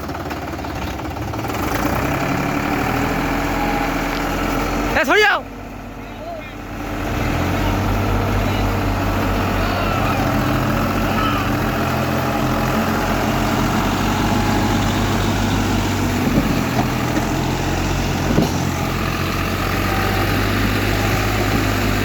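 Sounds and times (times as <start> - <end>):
tractor diesel engine straining: 0.0 - 22.0.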